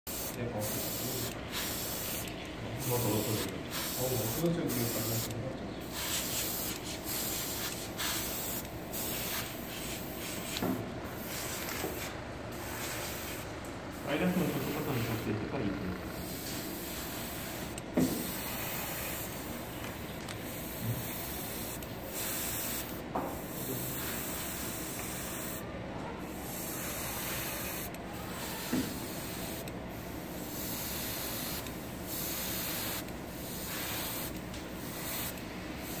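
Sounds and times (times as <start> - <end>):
airbrush hissing: 0.1 - 15.3, 16.1 - 25.7, 26.3 - 36.0.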